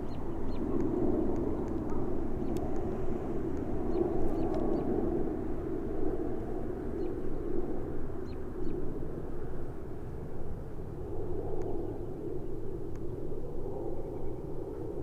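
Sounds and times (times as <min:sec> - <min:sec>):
distant jet engines rumbling: 0:00.0 - 0:15.0.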